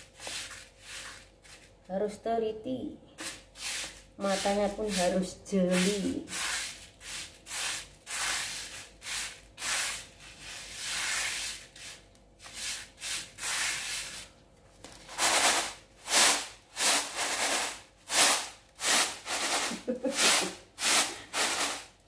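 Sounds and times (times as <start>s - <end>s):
rice swishing in a tray: 0.0s - 1.8s, 3.2s - 14.3s, 15.1s - 22.0s.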